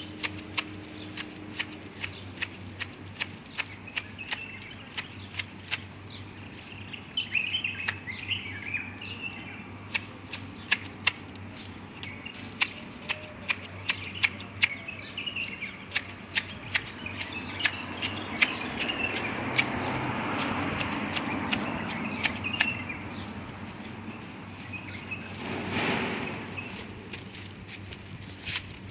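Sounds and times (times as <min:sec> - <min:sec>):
birds chirping: 0:00.0 - 0:28.9
garden shears snipping foliage: 0:00.0 - 0:28.9.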